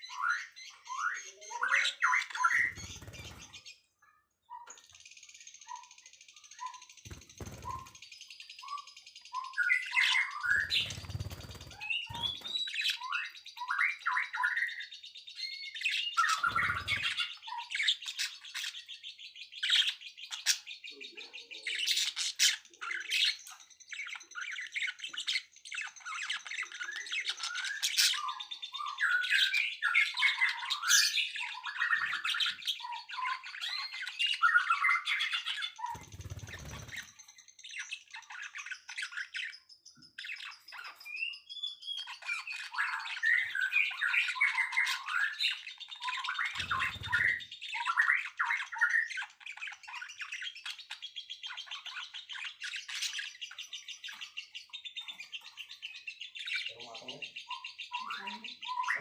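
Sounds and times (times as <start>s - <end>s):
songbirds chirping and twittering: 0.0s - 59.0s.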